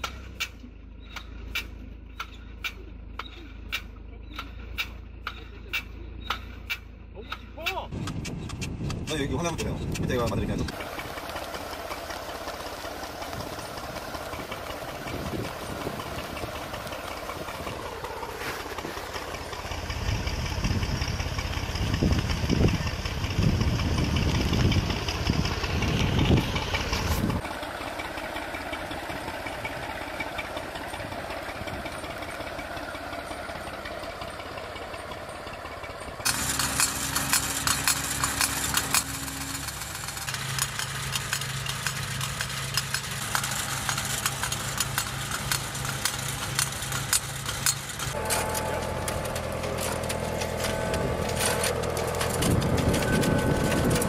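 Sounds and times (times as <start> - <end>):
engine humming steadily: 0.0 - 54.0
tractor engine running: 0.0 - 54.0.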